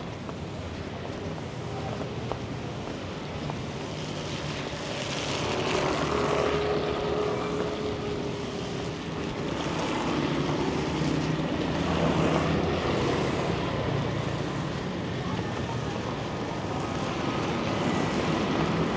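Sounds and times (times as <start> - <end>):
traffic passing: 0.0 - 18.9.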